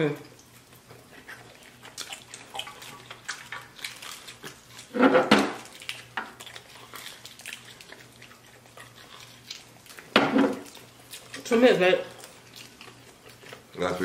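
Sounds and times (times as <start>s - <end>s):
faint steady hum: 0.0s - 14.0s
chewing and lip-smacking: 0.2s - 5.0s, 5.6s - 13.9s.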